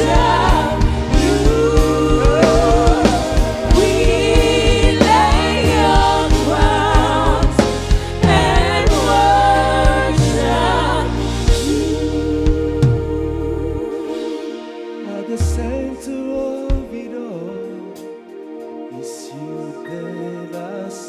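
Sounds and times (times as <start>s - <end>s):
band accompaniment: 0.0s - 18.9s
voices singing gospel: 0.0s - 21.0s.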